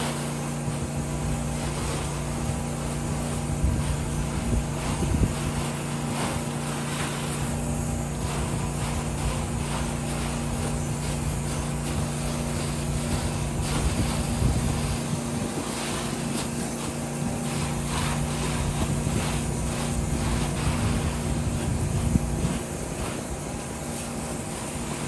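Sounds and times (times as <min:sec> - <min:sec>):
pressure washer engine running: 0:00.0 - 0:25.0
water spraying hiss: 0:00.0 - 0:25.0.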